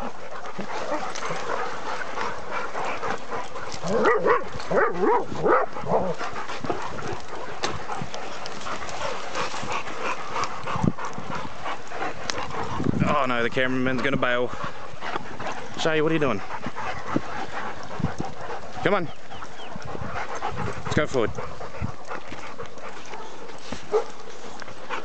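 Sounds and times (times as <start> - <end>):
dogs barking: 0.0 - 25.0
dogs panting heavily: 0.0 - 25.0.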